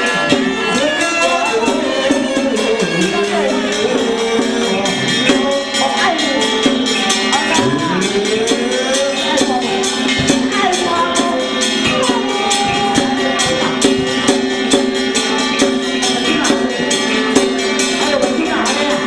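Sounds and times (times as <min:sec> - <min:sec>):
chanted vocal line: 0:00.0 - 0:19.0
quick percussion beat: 0:00.0 - 0:19.0
sustained tones: 0:00.7 - 0:17.3.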